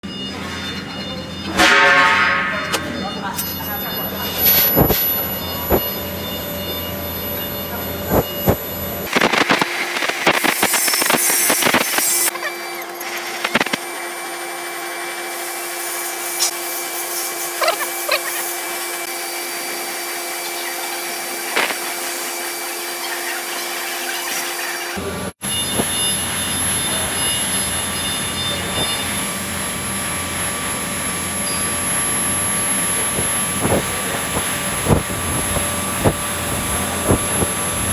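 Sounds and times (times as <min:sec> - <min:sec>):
welding buzzing hum: 0:01.6 - 0:37.9.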